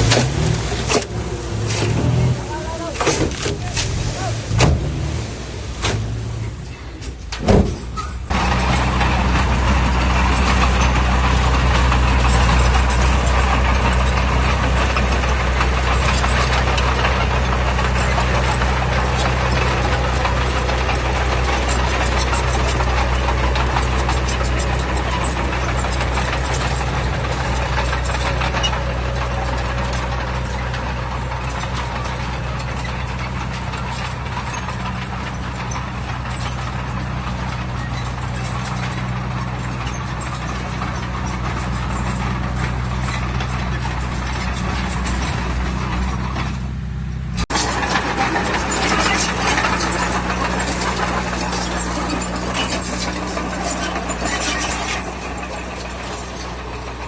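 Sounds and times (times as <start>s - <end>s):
diesel machinery engine: 0.0s - 57.0s.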